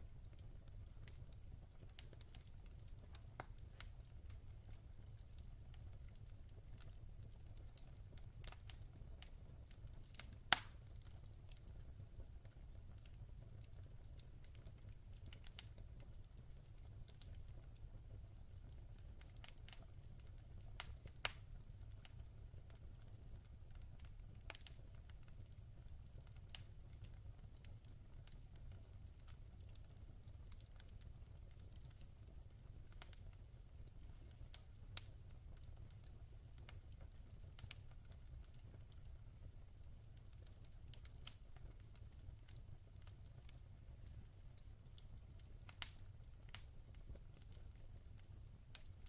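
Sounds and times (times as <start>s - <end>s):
log fire crackling: 0.0s - 49.0s.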